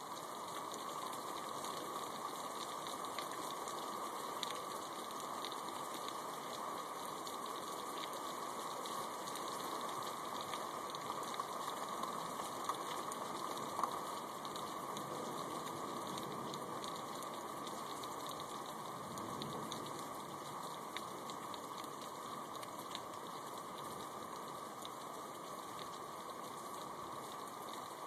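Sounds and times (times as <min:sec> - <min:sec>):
rain falling: 0:00.0 - 0:28.0
raindrop ticks: 0:00.0 - 0:28.0.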